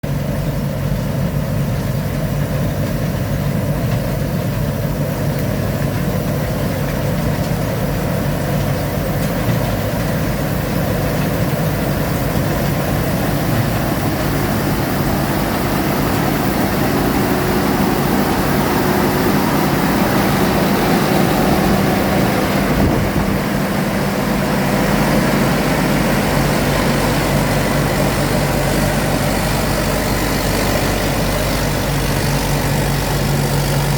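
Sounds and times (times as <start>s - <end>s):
combine harvester droning: 0.0s - 33.9s.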